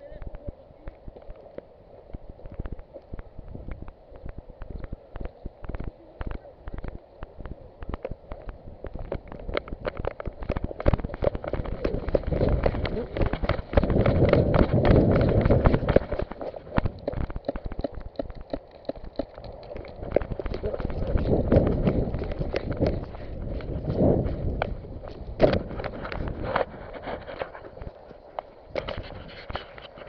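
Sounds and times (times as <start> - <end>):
footsteps in dry vegetation: 1.0 - 30.0.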